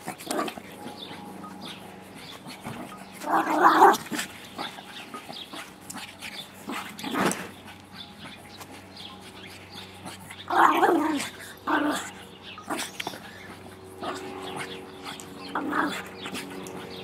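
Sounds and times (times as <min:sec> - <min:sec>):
dog calling: 0:00.0 - 0:17.0.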